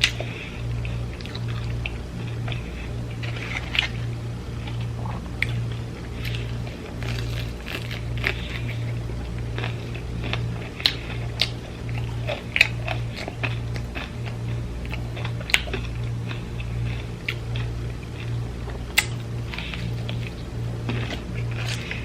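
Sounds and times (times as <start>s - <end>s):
low pulsing hum: 0.0s - 22.0s
person chewing food: 0.0s - 22.0s.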